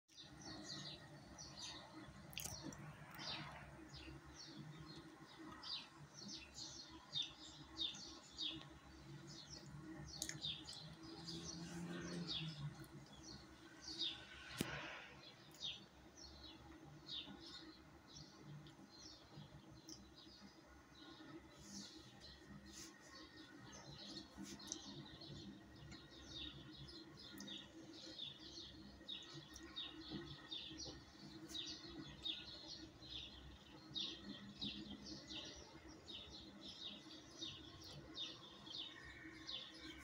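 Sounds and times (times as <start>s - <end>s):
small birds chirping: 0.1s - 40.0s.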